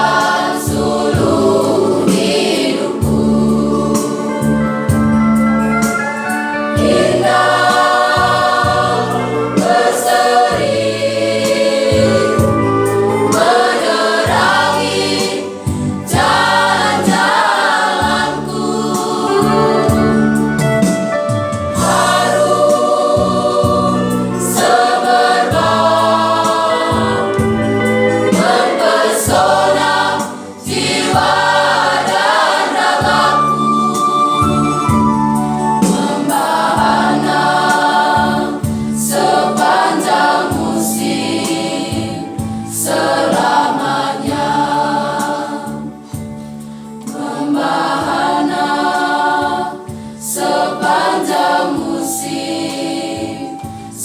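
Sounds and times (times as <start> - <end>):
choir singing: 0.0 - 21.0, 21.6 - 54.0.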